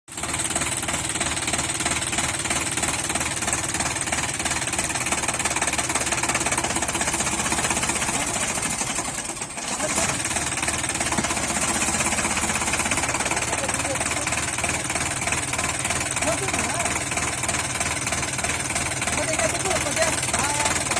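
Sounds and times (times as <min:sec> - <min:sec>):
tractor diesel engine running: 0:00.1 - 0:20.9.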